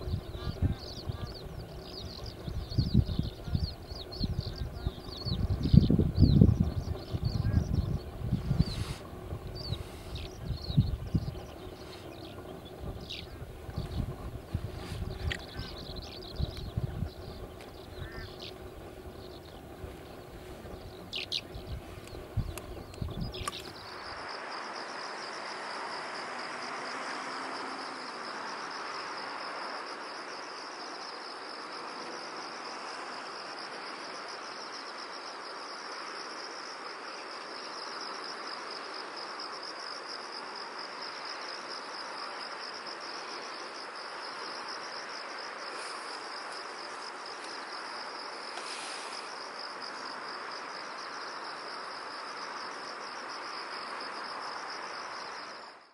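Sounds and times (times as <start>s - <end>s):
crickets trilling: 0.0s - 55.9s
soft hiss: 6.6s - 55.9s.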